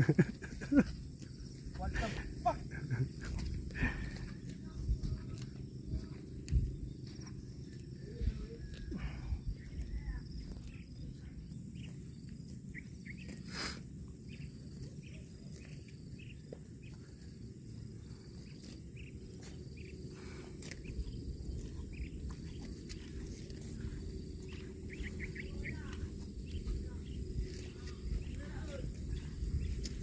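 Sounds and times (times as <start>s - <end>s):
high insect drone: 0.0s - 30.0s
low rumble: 0.3s - 13.1s, 16.6s - 30.0s
cow chewing grass: 3.1s - 30.0s.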